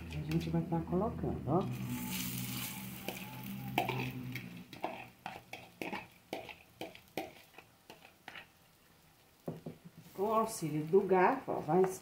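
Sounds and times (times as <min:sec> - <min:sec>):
egg frying in oil: 0:01.6 - 0:12.0.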